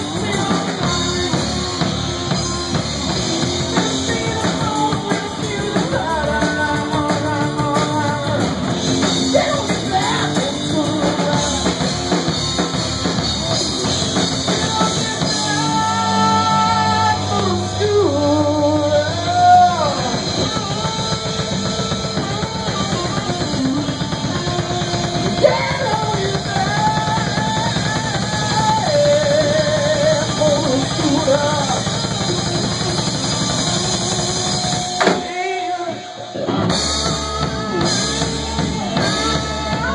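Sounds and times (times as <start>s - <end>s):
drum kit: 0.0s - 39.9s
electric guitar lead line: 0.0s - 39.9s
person singing: 0.0s - 39.9s.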